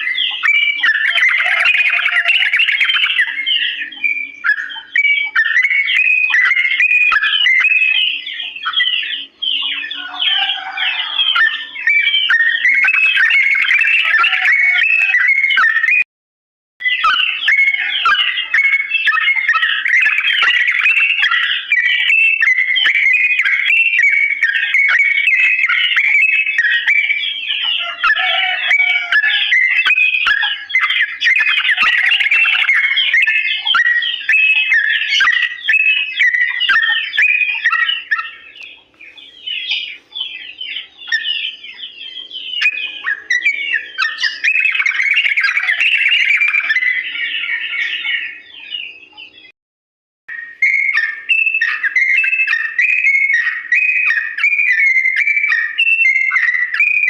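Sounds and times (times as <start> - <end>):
bulbul singing: 0.0 - 16.0, 16.8 - 49.5, 50.3 - 57.0.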